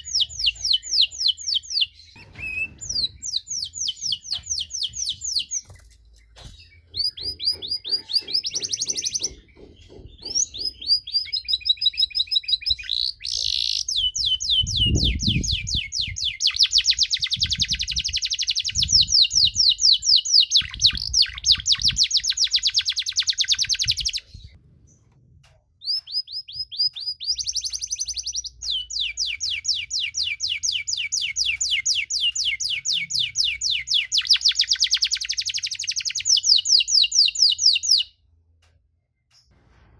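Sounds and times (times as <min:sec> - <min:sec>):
canary singing trills: 0:00.0 - 0:24.6, 0:25.8 - 0:38.2.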